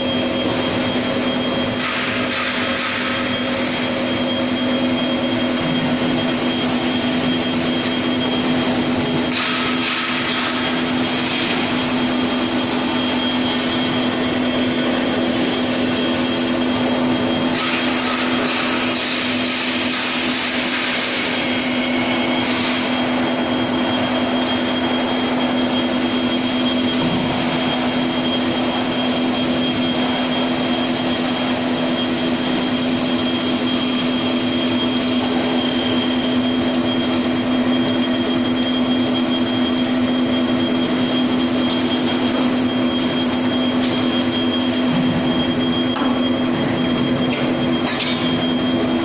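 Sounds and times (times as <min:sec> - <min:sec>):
oil expeller machine drone: 0:00.0 - 0:49.0.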